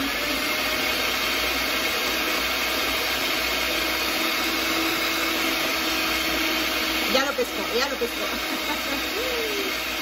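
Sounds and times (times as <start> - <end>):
stand mixer motor whirring: 0.0 - 10.0.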